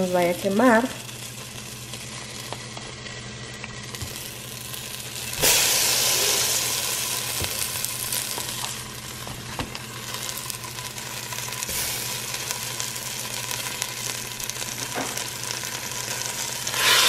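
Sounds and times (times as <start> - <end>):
butter sizzling in a pot: 0.0 - 17.0.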